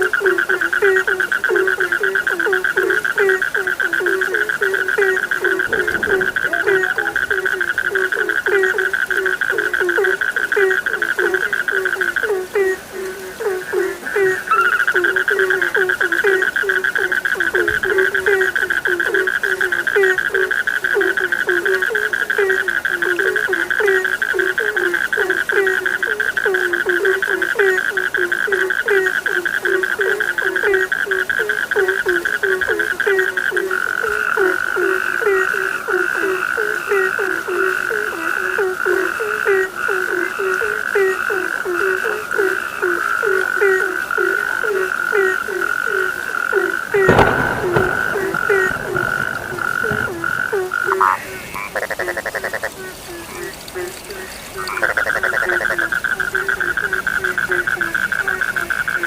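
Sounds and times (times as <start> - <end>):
frogs croaking: 0.0 - 59.0
high frog trilling: 0.0 - 59.0.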